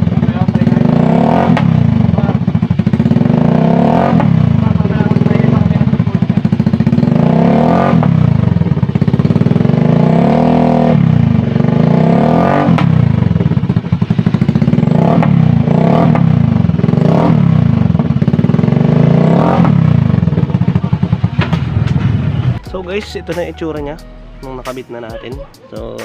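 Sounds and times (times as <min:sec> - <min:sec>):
scooter engine revving: 0:00.0 - 0:22.7.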